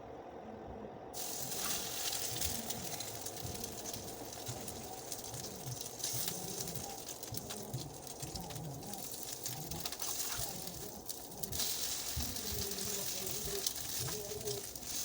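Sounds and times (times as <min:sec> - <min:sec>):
food sizzling in hot oil: 0:01.2 - 0:15.0.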